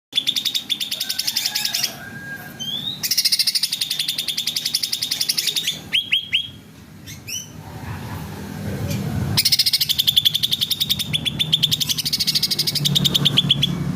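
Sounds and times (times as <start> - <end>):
bird chattering song: 0.1 - 2.0, 2.6 - 7.6, 9.4 - 13.9.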